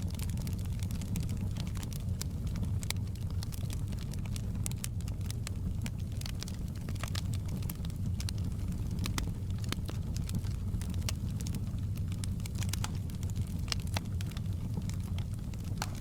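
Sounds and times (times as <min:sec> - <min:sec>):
fireplace crackling: 0:00.0 - 0:16.0.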